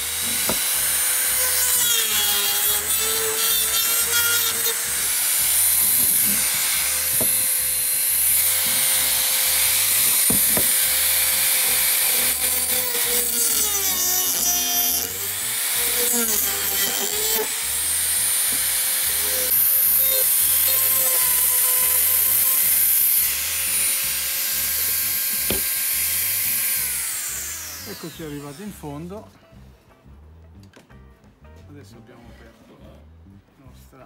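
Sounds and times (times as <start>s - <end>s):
rotary drill cutting plastic: 0.0s - 28.8s.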